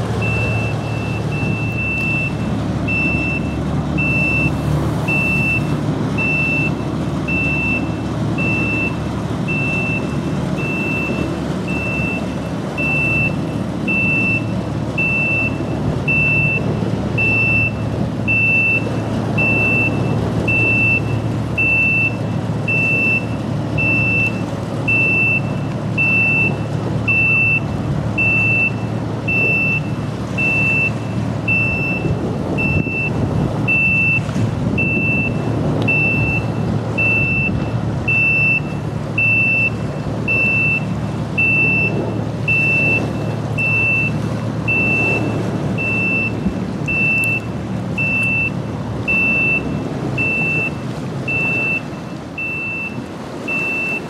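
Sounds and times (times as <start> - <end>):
ship engine drone: 0.0 - 54.0
high electronic warning beep: 0.2 - 54.0.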